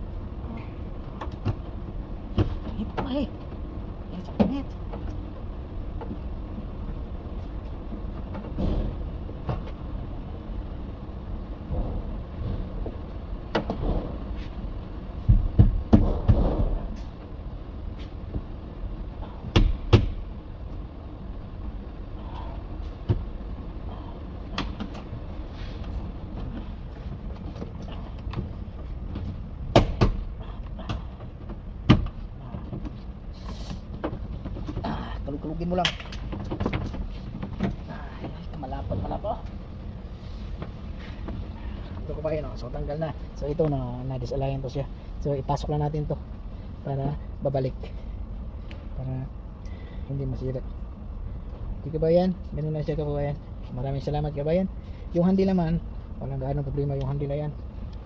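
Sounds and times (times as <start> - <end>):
workshop background hum: 0.0 - 58.0.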